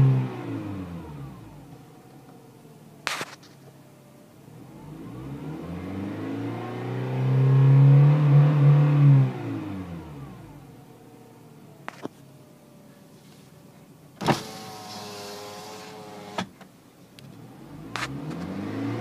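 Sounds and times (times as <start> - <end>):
car engine and exhaust revving: 0.0 - 12.4, 14.1 - 19.0.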